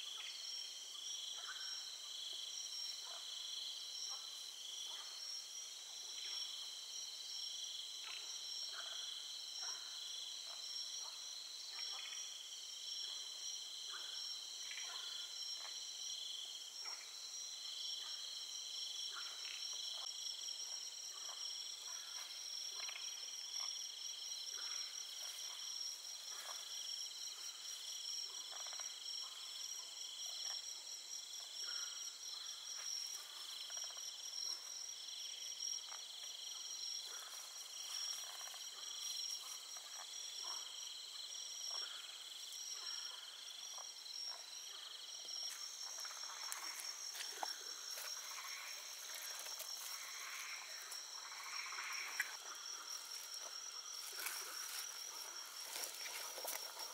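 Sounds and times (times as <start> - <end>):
crickets and insects trilling: 0.0 - 56.9
insect chirps and clicks: 0.0 - 56.9.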